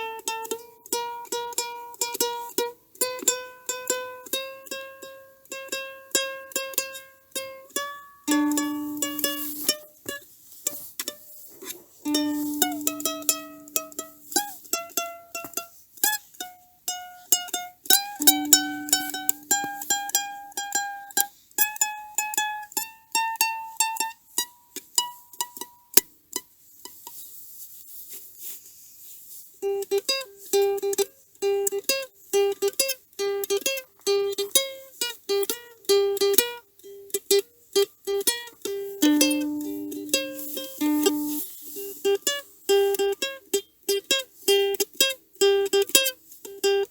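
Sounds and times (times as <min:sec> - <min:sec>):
plucked string melody: 0:00.0 - 0:27.0, 0:29.6 - 0:46.9.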